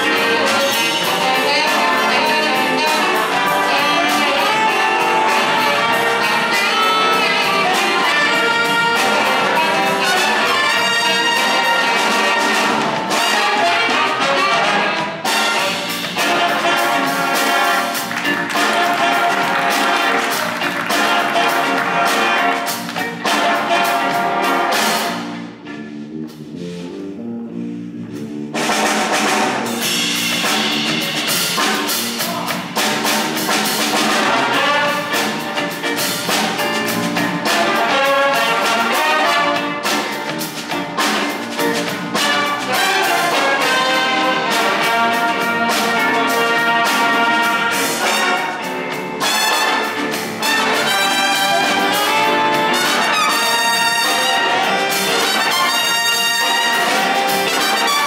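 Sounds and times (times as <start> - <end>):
big band playing funk: 0.0 - 58.0.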